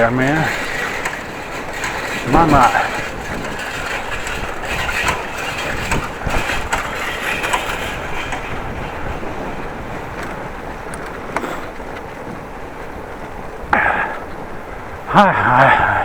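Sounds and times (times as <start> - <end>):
bicycle rattling over rough pavement: 0.0 - 16.0
wind on microphone: 0.0 - 16.0.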